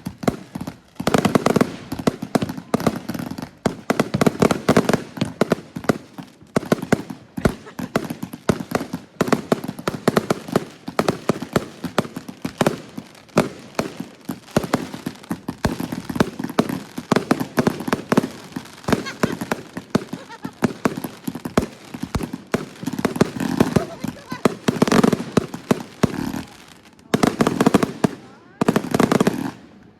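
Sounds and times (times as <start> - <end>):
fireworks shots and bursts: 0.0 - 29.9.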